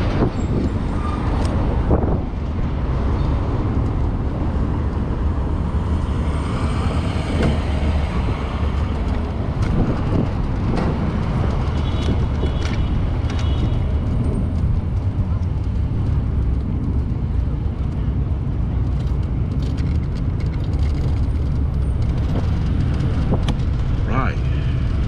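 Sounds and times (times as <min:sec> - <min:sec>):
traffic rumble: 0:00.0 - 0:25.0
wind noise: 0:00.0 - 0:25.0.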